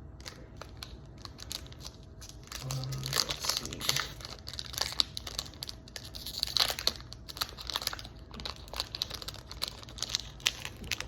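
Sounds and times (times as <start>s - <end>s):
foil wrapper crinkling: 0.2s - 11.0s.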